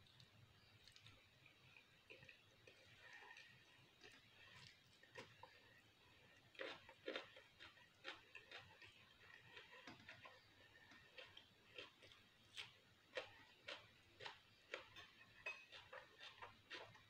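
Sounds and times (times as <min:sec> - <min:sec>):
chewing with mouth closed: 0:00.0 - 0:17.0.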